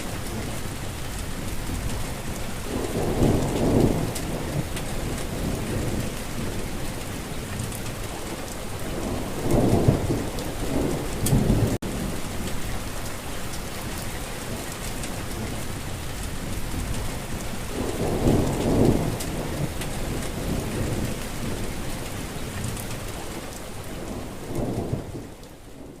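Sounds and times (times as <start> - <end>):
low thunder rumbles: 0.0 - 13.0, 14.4 - 26.0
heavy rain: 0.0 - 26.0.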